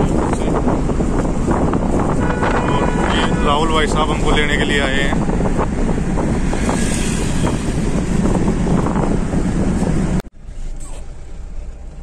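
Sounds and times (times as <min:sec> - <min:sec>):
car interior driving noise: 0:00.0 - 0:12.0
quieter steady engine: 0:00.0 - 0:12.0.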